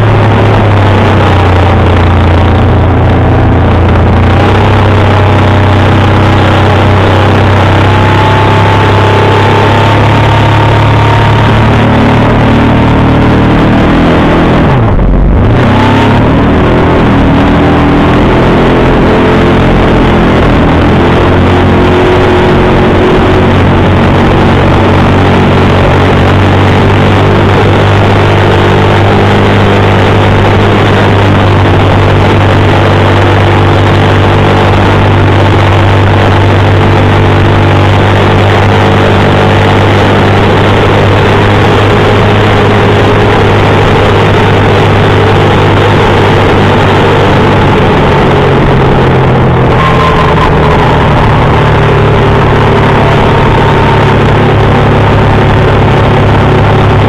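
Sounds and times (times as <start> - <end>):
outboard motor running: 0.0 - 13.9, 16.6 - 57.0.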